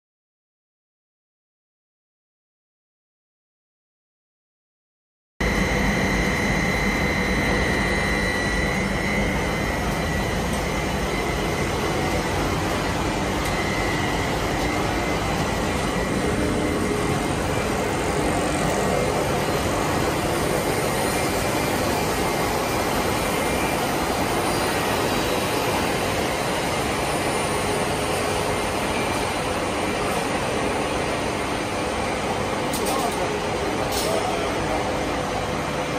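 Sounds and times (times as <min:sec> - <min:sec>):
production line machine noise: 0:05.4 - 0:35.9
thin high whine: 0:05.4 - 0:35.9.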